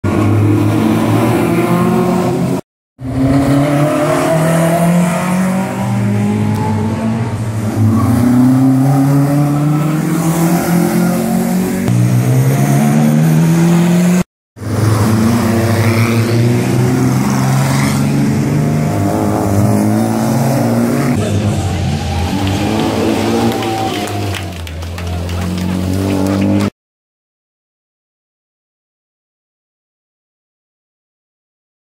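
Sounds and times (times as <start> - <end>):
sports car engines accelerating: 0.1 - 26.7.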